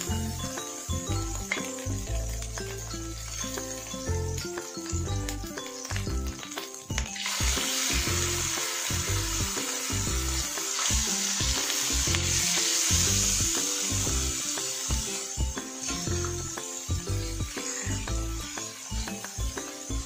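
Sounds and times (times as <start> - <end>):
background music with beat: 0.0 - 20.0
meat sizzling in hot oil: 0.0 - 20.0.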